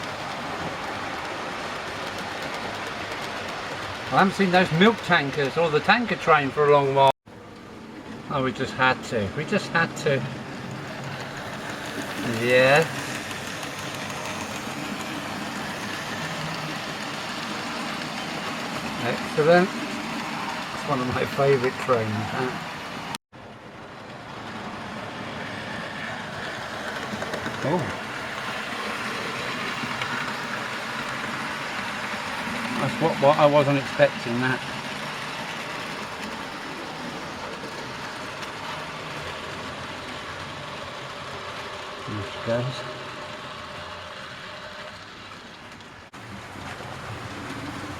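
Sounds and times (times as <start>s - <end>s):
model train running on track: 0.0s - 47.9s.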